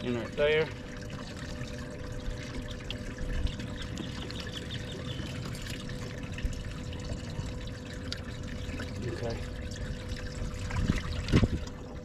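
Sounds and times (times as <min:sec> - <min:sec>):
faint constant hum: 0:00.0 - 0:12.0
water trickling and pouring: 0:00.0 - 0:12.0.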